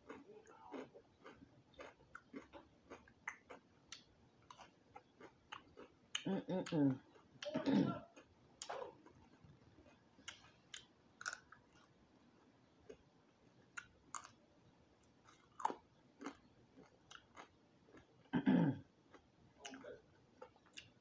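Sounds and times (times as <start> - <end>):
crunchy chewing: 0.0 - 7.5, 8.1 - 14.4, 15.0 - 18.3, 19.1 - 21.0.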